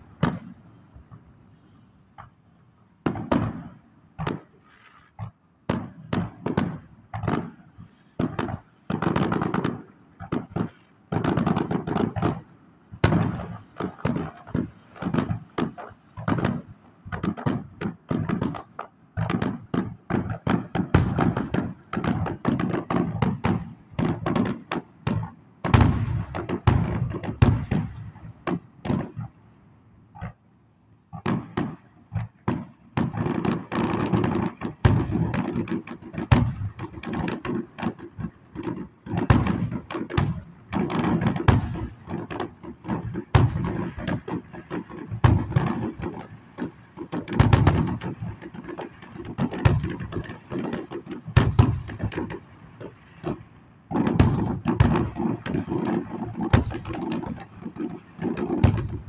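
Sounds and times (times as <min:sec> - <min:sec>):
fireworks bangs: 0:00.0 - 0:02.4, 0:03.0 - 0:30.4, 0:31.1 - 0:59.0.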